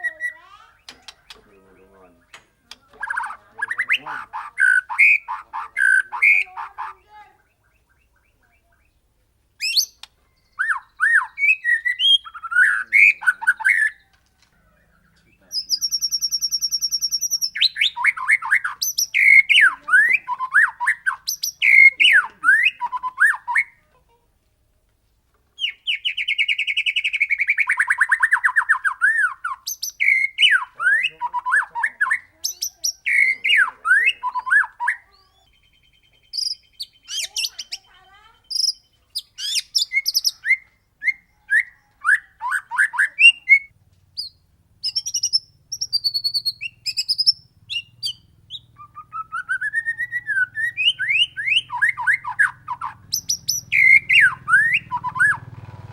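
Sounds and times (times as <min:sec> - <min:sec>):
songbird whistling and rattling: 0:00.0 - 0:01.6, 0:09.6 - 0:14.4, 0:15.2 - 0:23.8, 0:25.6 - 0:55.6.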